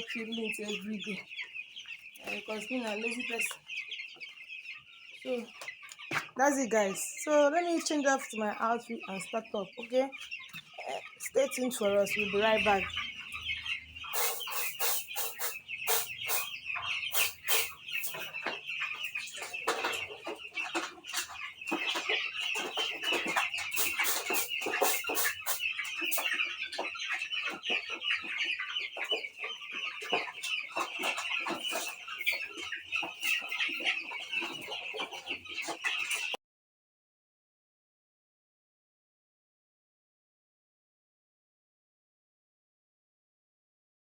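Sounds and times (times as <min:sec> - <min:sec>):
chicks peeping: 0:00.0 - 0:36.4.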